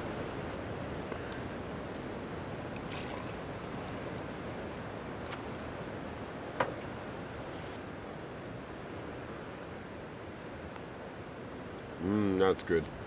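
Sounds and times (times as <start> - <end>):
ocean surf: 0.0 - 13.0.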